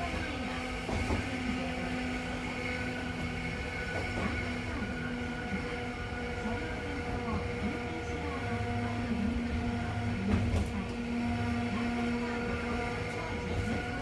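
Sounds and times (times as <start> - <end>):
train car rumbling on track: 0.0 - 14.0.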